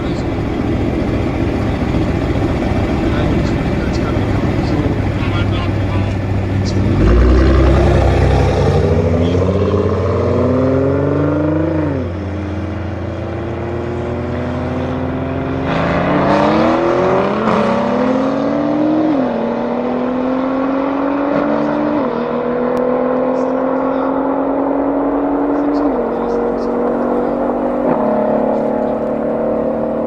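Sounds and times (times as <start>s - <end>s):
car engine accelerating through gears: 0.0s - 30.0s.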